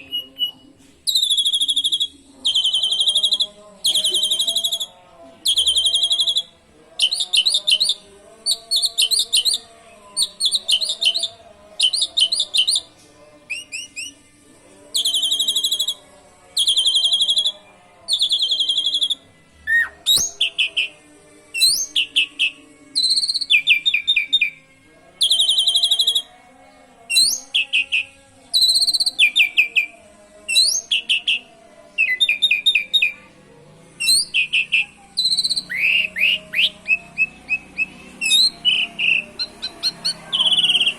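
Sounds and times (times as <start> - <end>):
starling singing rapid trills: 0.0 - 26.4, 27.1 - 40.9.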